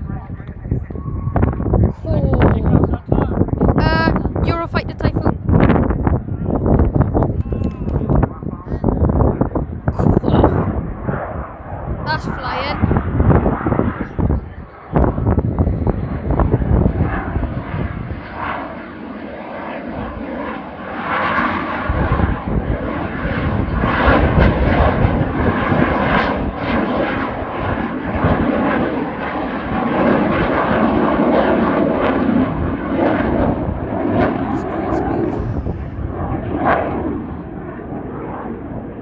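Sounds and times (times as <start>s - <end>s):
crackling jet noise: 0.0s - 39.0s.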